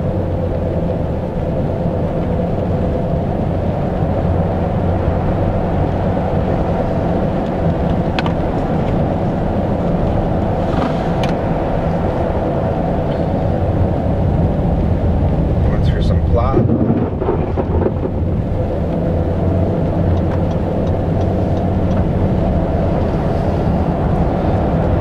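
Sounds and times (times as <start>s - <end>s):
tyres rumbling on snow: 0.0s - 25.0s.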